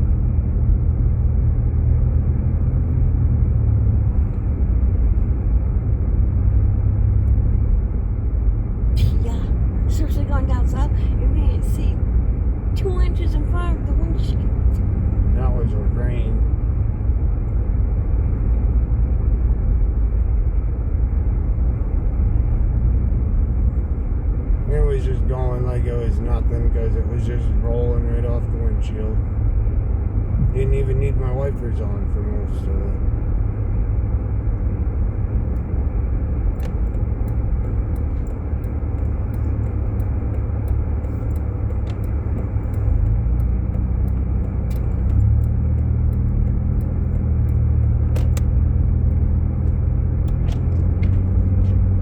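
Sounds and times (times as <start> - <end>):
car interior road rumble: 0.0 - 52.0.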